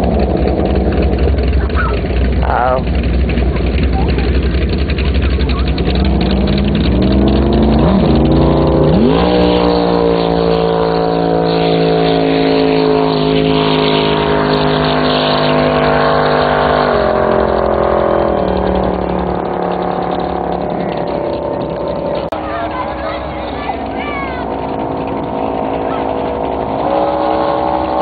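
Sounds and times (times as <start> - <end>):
boat engine accelerating: 0.0 - 28.0.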